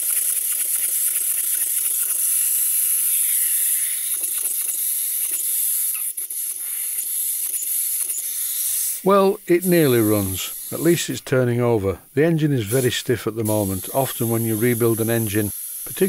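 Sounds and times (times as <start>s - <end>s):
compressed air hissing through engine: 0.0s - 11.2s, 12.0s - 16.0s.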